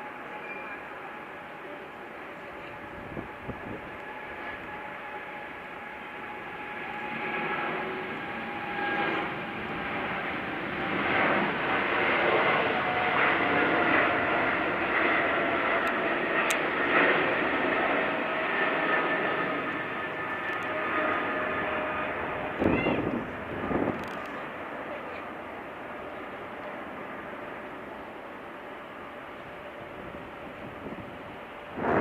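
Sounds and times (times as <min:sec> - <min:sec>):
jet engines at takeoff thrust: 0:00.0 - 0:32.0.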